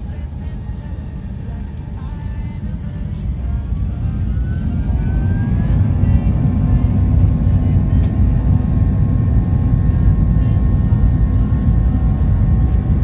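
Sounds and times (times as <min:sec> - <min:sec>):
faint rising engine whine: 0:00.0 - 0:13.0
jet engines rumbling: 0:00.0 - 0:13.0.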